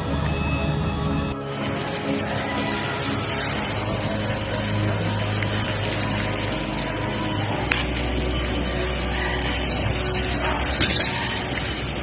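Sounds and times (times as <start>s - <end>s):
music of held low notes: 0.0s - 12.0s.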